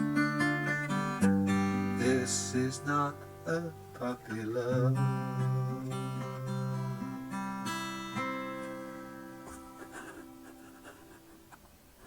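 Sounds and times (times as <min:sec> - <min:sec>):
acoustic guitar strumming: 0:00.0 - 0:11.6.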